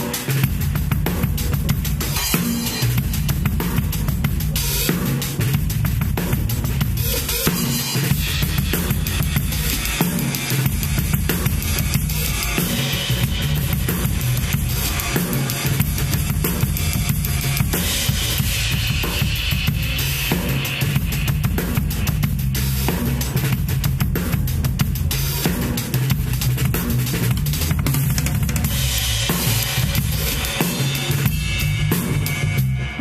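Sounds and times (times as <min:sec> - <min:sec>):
drum kit playing: 0:00.0 - 0:33.0.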